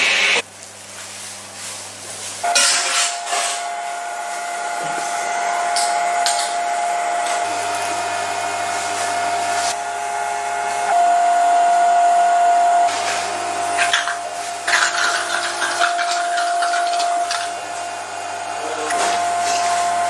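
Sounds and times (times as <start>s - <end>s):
electric motor whine: 2.5s - 14.7s, 15.7s - 20.0s.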